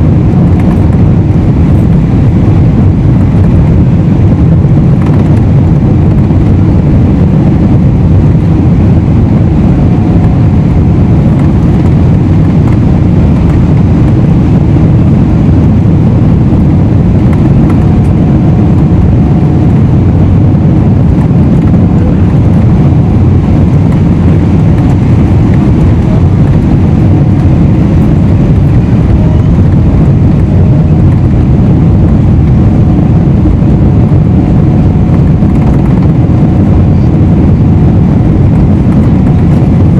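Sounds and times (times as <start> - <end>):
faint steady whine: 0.0 - 39.9
jet engine cabin rumble: 0.0 - 39.9
rushing airflow: 0.0 - 39.9.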